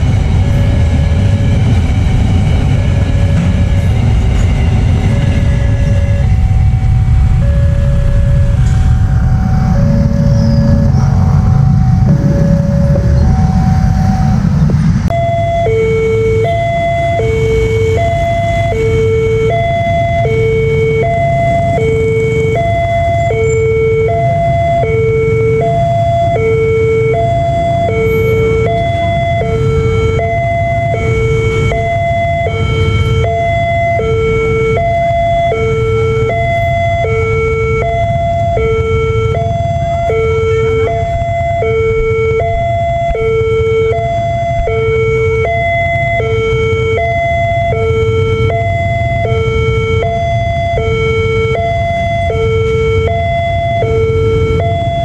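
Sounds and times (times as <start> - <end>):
low rumble: 0.0 - 33.9, 36.4 - 52.6
two-tone crossing alarm: 0.0 - 55.0.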